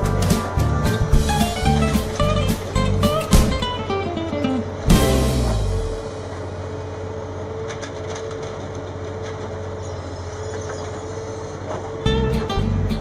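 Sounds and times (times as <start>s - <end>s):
track machine running with whine: 0.0s - 13.0s.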